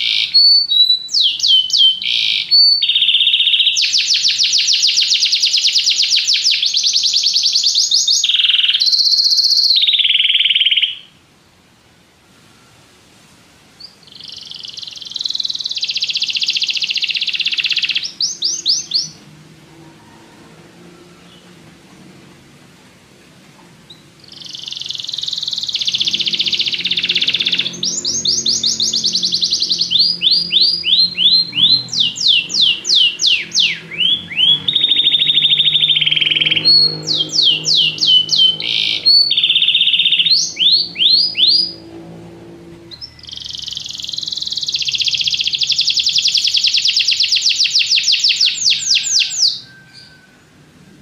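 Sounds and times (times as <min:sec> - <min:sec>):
canary singing trills: 0:00.0 - 0:11.2, 0:13.8 - 0:19.4, 0:23.9 - 0:50.9.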